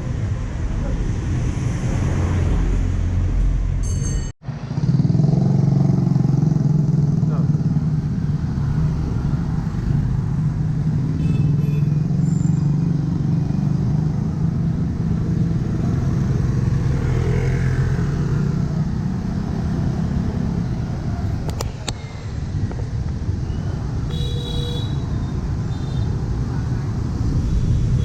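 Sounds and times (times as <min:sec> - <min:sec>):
motorbike engines in traffic: 0:00.0 - 0:28.0.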